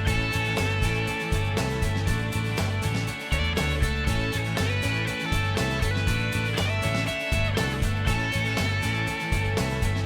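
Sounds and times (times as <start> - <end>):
country guitar music with beat: 0.0 - 10.0.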